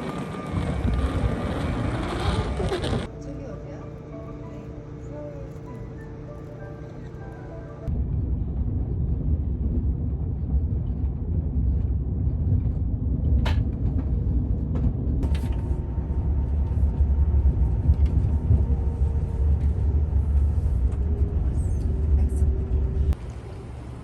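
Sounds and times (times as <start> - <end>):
low rumble of moving vehicle: 0.0 - 24.0.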